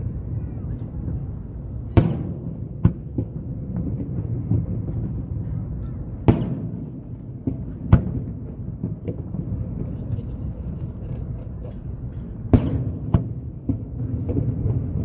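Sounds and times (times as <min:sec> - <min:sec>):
low background rumble: 0:00.0 - 0:15.0
firework shells bursting: 0:01.0 - 0:15.0.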